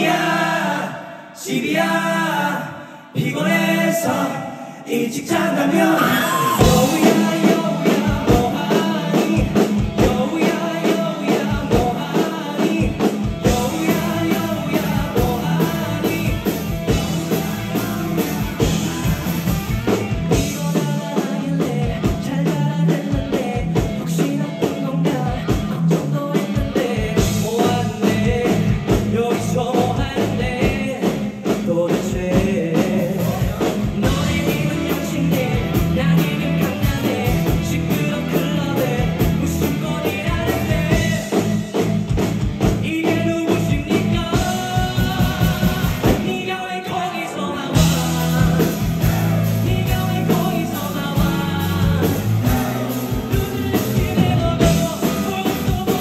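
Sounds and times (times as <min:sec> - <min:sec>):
person singing: 0:00.0 - 0:41.9, 0:42.7 - 0:56.0
live rock band playing: 0:05.8 - 0:56.0
drum kit beat: 0:06.4 - 0:46.6, 0:47.7 - 0:56.0.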